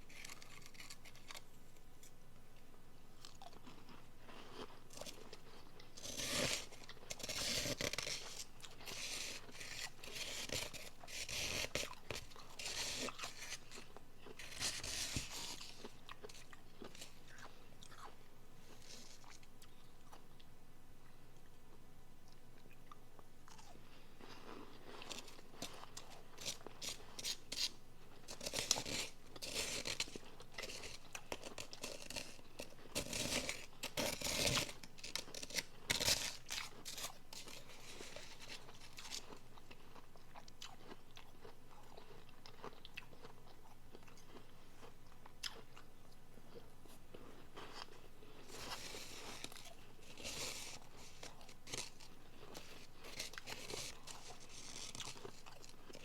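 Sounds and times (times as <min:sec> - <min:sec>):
crunching and chewing ice: 0:00.0 - 0:02.2, 0:03.2 - 0:56.0.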